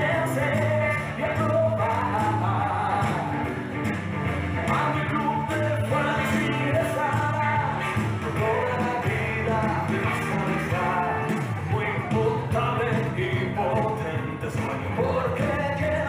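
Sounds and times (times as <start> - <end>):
song over a loudspeaker: 0.0 - 16.0.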